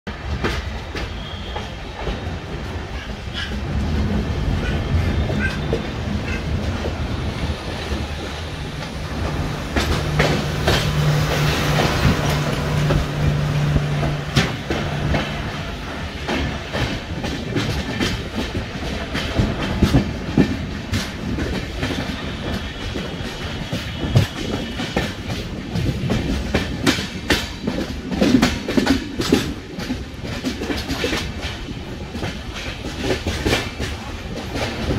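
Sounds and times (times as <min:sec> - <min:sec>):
train rumble: 0:00.1 - 0:34.9
wheels clacking over rail joints: 0:00.1 - 0:34.9.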